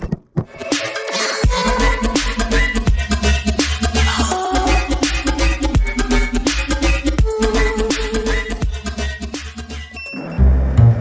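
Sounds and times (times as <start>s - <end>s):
upbeat music with heavy bass: 0.5s - 10.0s.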